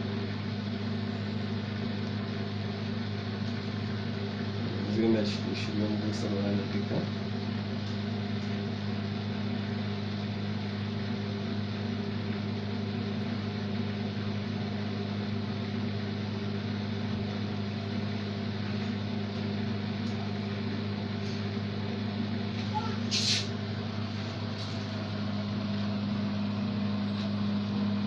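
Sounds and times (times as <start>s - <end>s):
washing machine motor hum: 0.0s - 28.0s.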